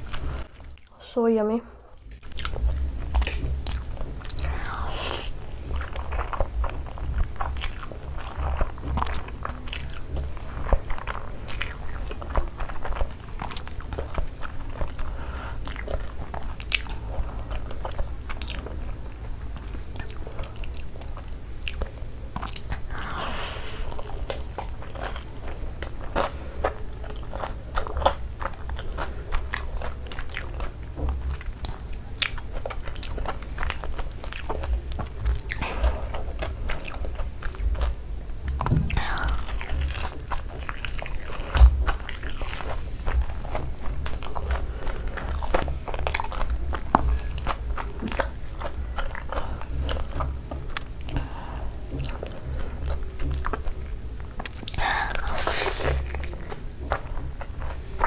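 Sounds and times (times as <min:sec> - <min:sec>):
chewing and crunching: 0:00.0 - 0:01.0, 0:01.9 - 0:58.0
steady low hum: 0:00.0 - 0:58.0.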